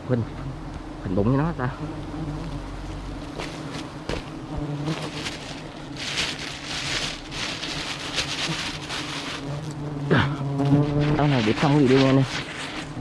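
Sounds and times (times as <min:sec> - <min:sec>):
bees buzzing: 0:00.0 - 0:13.0
rustling: 0:01.8 - 0:13.0.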